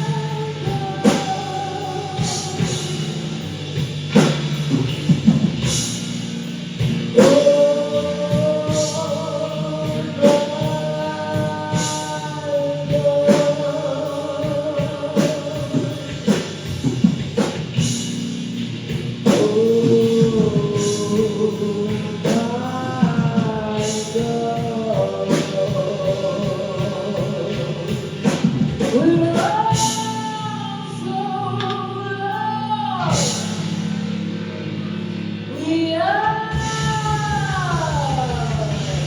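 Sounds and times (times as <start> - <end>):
person singing long notes: 0.0 - 3.6, 7.0 - 16.9, 19.2 - 33.7, 34.3 - 39.0
bass: 0.0 - 39.0
drums: 0.0 - 39.0.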